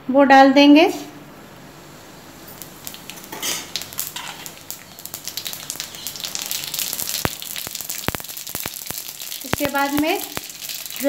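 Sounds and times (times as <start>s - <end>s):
seeds sizzling in hot oil: 1.3s - 11.0s.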